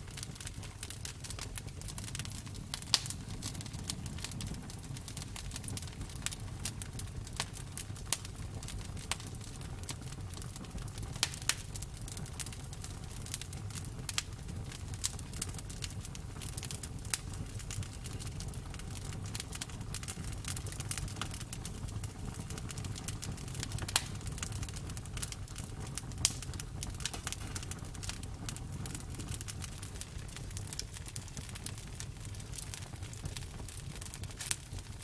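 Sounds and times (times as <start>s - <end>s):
campfire rumbling: 0.0s - 35.0s
wood crackling and popping: 0.0s - 35.0s.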